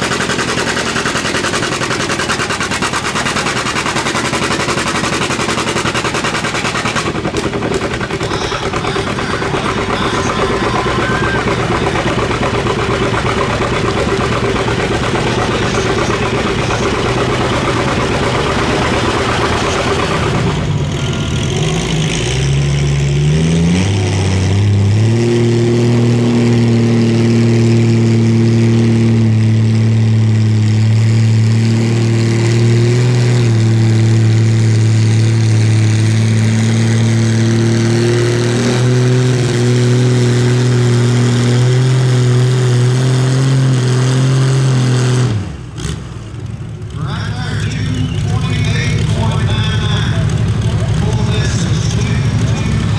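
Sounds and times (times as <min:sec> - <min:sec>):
engine revving to high pitch: 0:00.0 - 0:46.0, 0:47.2 - 0:52.9
loud rough engine: 0:00.0 - 0:52.9.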